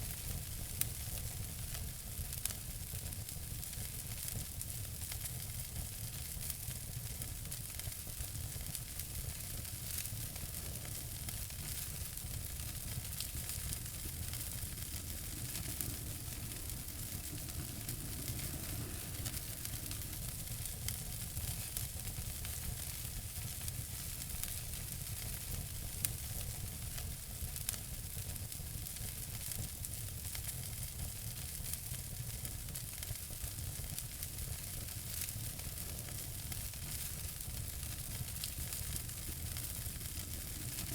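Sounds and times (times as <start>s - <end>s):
wood fire crackling: 0.1s - 40.9s.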